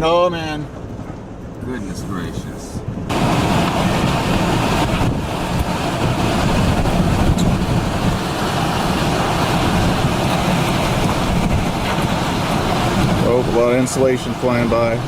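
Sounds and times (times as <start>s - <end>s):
strong wind blowing: 2.3s - 15.0s.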